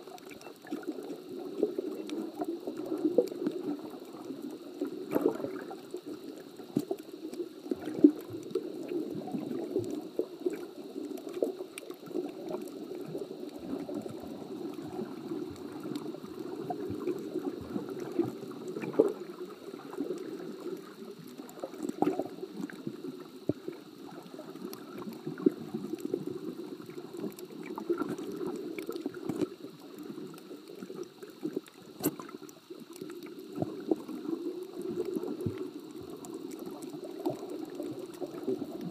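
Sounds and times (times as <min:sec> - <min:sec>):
muffled underwater water murmur: 0:00.0 - 0:38.9
small clicks and pops: 0:00.0 - 0:38.9.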